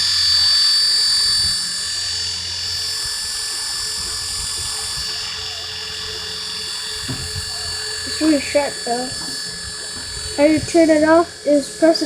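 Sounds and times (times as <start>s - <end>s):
small propellers whining: 0.0s - 12.0s.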